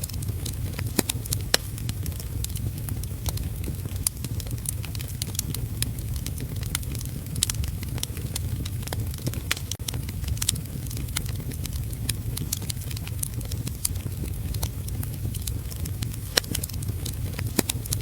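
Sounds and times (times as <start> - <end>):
sharp pops and snaps: 0.0 - 18.0
steady low rumble: 0.0 - 18.0
wood fire crackling: 0.0 - 18.0.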